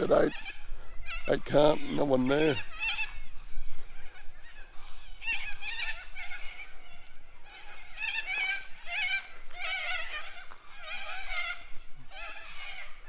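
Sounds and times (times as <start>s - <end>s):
waterfowl honking: 0.0s - 3.2s, 4.0s - 13.0s.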